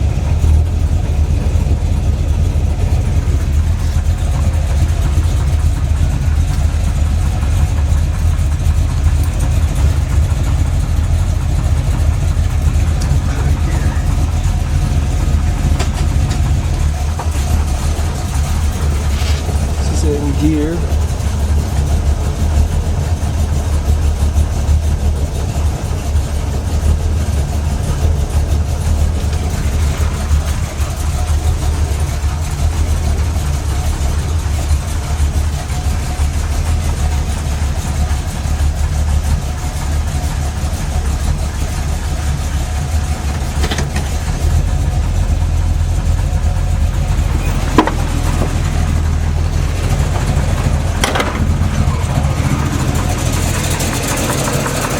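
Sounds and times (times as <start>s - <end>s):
engine idling with knock: 0.0s - 54.9s.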